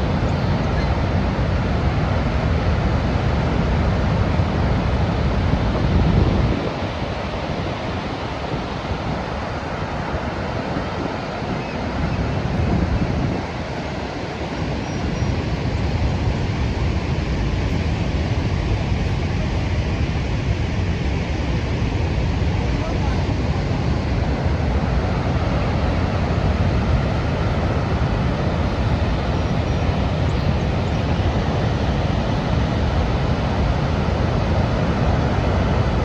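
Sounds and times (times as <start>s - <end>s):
waterfall roaring: 0.0s - 36.0s
wind buffeting microphone: 0.0s - 36.0s.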